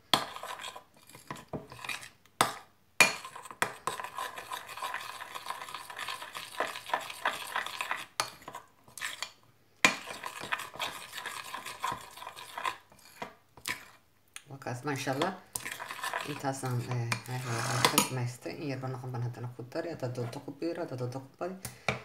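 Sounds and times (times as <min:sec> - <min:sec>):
spoon stirring in glass bowl: 0:00.1 - 0:14.0, 0:14.8 - 0:18.3, 0:20.0 - 0:20.6.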